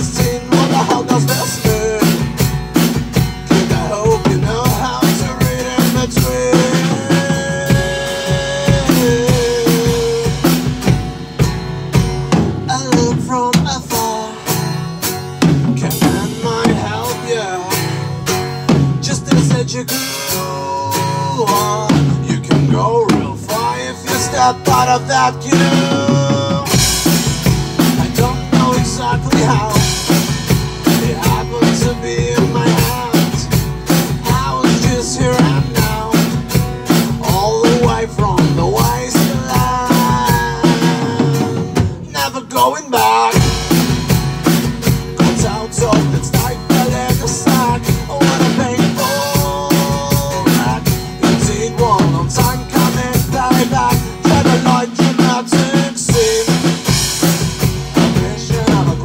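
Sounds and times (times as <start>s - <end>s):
drum kit beat: 0.0s - 59.0s
electric guitar melody: 0.0s - 59.0s.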